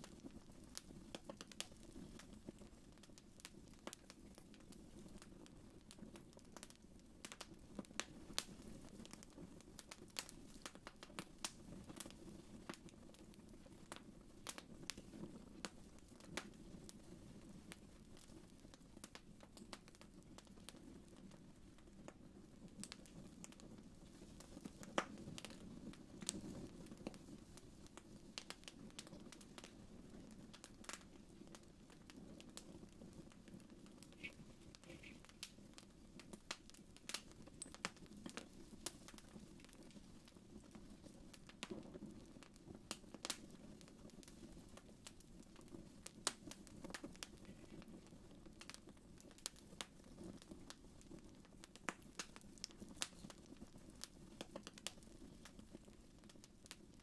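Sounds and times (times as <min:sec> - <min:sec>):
faint wood fire crackling: 0:00.0 - 0:57.0.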